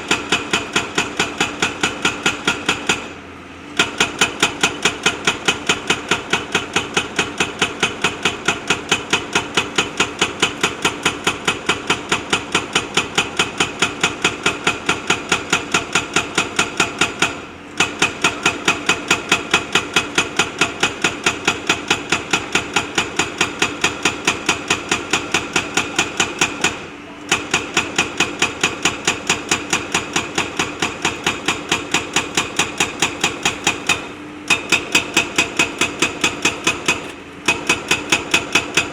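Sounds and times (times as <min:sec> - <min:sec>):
hydraulic rock breaker hammering stone: 0:00.0 - 0:38.9.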